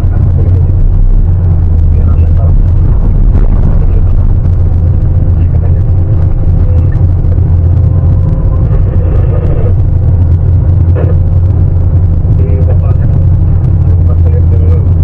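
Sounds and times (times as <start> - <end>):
excavator diesel engine rumbling: 0.0 - 15.0
faint steady whine: 0.0 - 15.0.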